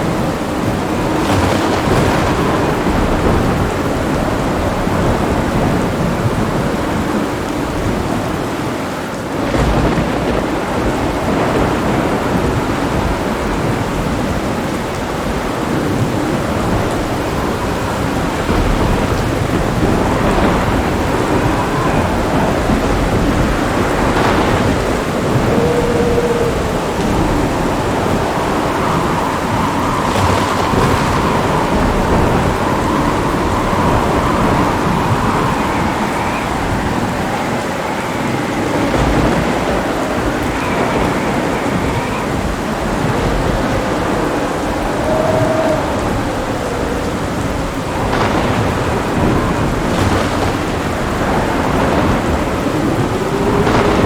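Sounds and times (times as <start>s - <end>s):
heavy rain falling: 0.0s - 54.0s
thunder rumbling: 0.0s - 54.0s.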